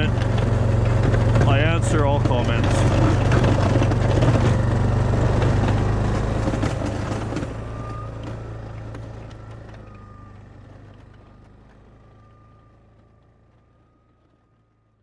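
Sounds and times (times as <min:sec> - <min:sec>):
quad bike engine running: 0:00.0 - 0:14.8.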